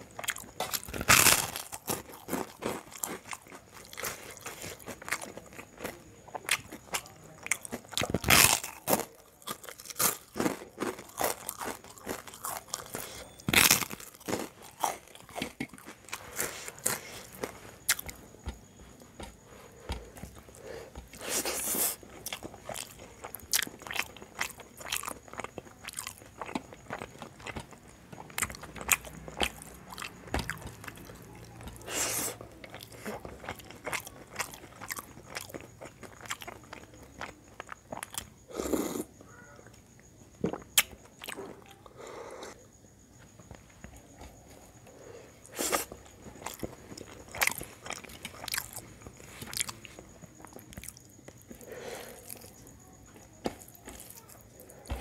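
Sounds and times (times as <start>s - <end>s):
crunchy bites: 0.0s - 42.6s, 43.4s - 55.0s
mouth chewing: 0.2s - 18.6s, 19.2s - 39.2s, 40.4s - 42.6s, 45.0s - 52.7s.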